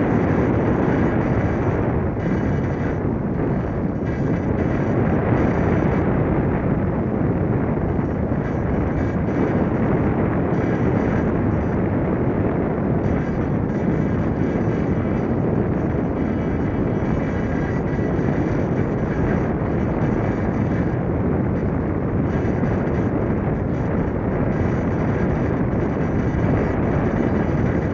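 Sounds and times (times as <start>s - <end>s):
air rushing over microphone: 0.0s - 27.9s.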